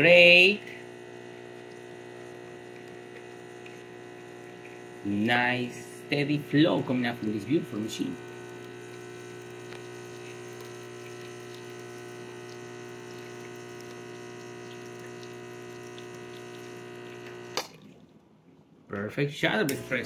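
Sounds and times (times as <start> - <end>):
espresso machine pump humming: 0.0 - 18.0, 19.5 - 20.0
espresso trickling into glass: 0.3 - 17.6.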